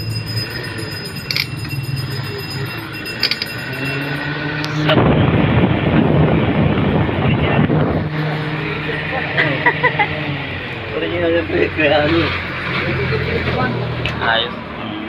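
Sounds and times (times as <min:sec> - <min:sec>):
electric fan motor humming: 0:00.0 - 0:12.5
fan air rushing: 0:00.0 - 0:12.5.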